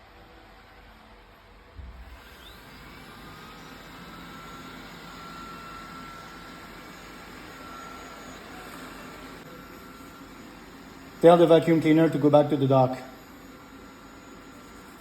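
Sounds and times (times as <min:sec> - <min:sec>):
faint high whine: 0:00.0 - 0:15.0
robot vacuum fan whirring: 0:00.0 - 0:15.0.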